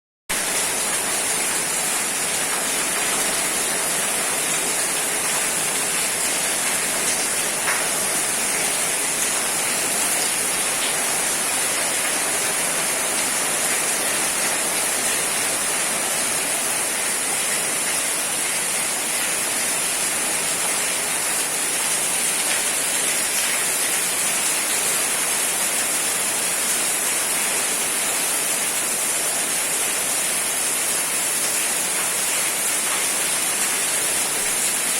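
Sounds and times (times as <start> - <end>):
rain falling steadily: 0.3 - 34.9.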